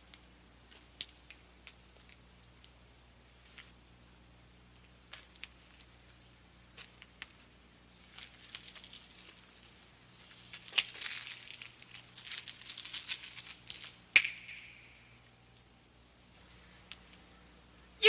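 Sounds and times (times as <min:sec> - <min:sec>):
soft rustling and crinkling: 0:00.0 - 0:14.2, 0:15.5 - 0:17.8.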